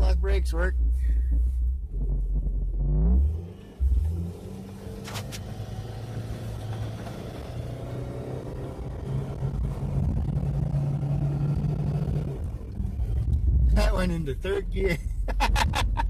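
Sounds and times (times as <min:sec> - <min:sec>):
car engine pulling: 0:00.0 - 0:16.0.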